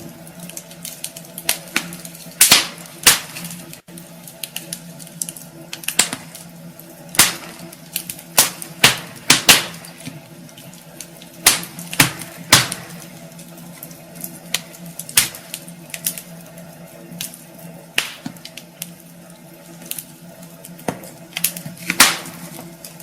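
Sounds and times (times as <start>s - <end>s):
faint steady hum: 0.0s - 23.0s
wood fire crackling: 0.0s - 23.0s.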